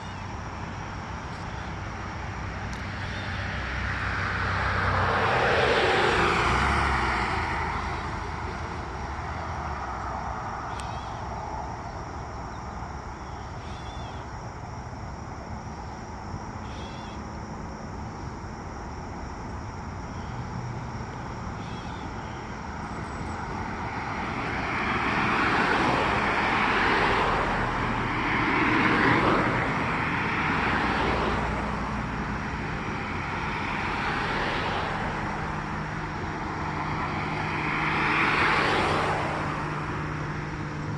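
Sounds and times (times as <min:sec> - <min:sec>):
road vehicles passing: 0:00.0 - 0:40.9
steady outdoor hum: 0:00.0 - 0:40.9.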